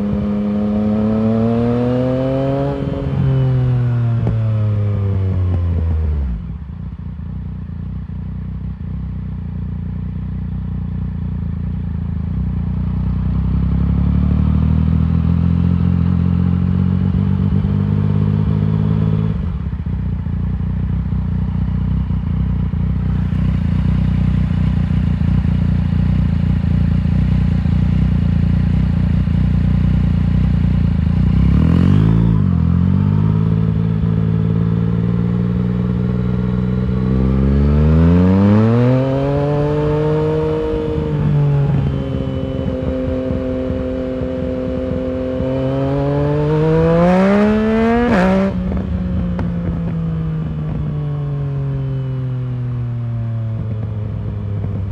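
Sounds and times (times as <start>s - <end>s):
motorcycle engine revving: 0.0s - 6.6s, 11.5s - 54.9s.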